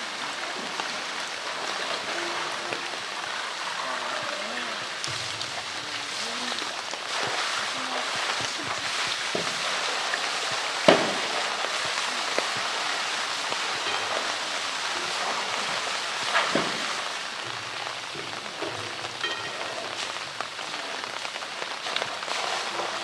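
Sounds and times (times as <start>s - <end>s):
water noise: 0.0s - 23.0s.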